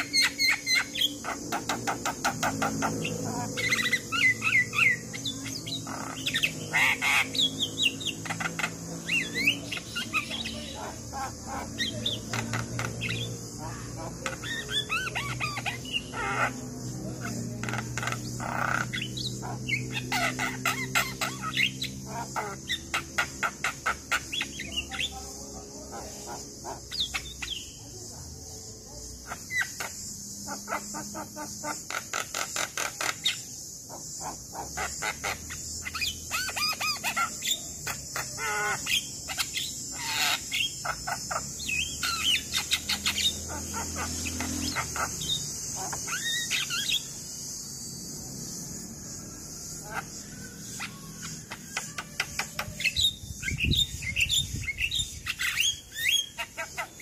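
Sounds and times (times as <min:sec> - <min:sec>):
bird singing harsh rattling notes: 0:00.0 - 0:57.0.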